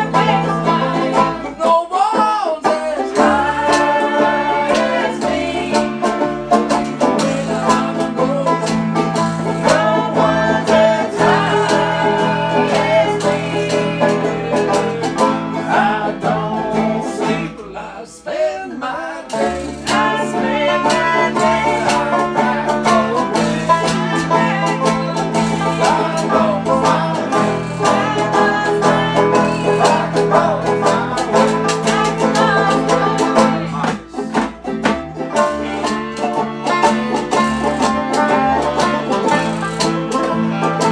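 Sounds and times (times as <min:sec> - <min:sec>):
band playing a song: 0:00.0 - 0:01.9, 0:02.6 - 0:17.7, 0:19.4 - 0:40.9.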